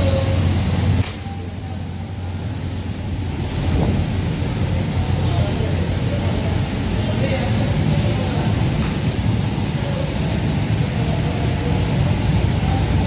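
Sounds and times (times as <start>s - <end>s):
industrial machinery humming: 0.0s - 13.0s.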